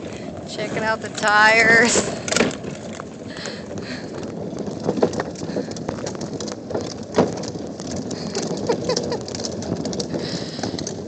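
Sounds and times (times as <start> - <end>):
toy wheels rolling on concrete: 0.0 - 11.0.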